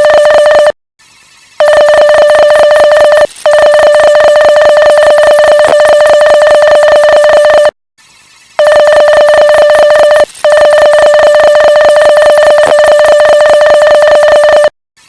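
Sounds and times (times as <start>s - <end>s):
morse code beeping: 0.0s - 0.7s, 1.6s - 7.7s, 8.6s - 14.7s.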